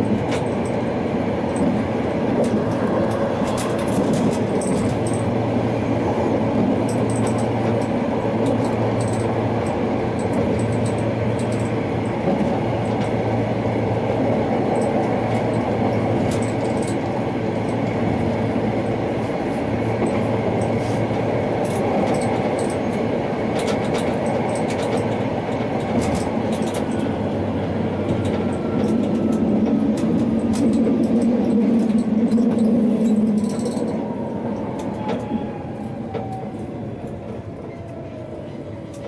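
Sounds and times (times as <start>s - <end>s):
tram wheels rumbling on rails: 0.0s - 39.0s.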